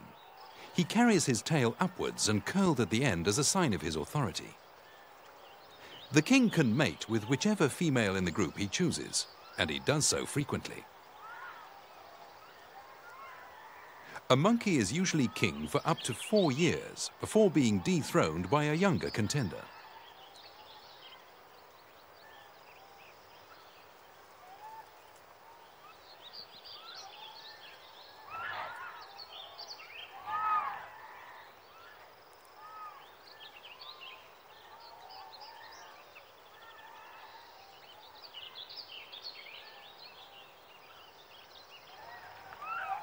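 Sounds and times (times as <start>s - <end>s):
birds chirping: 0.0s - 43.0s
loud bird calls: 0.0s - 43.0s.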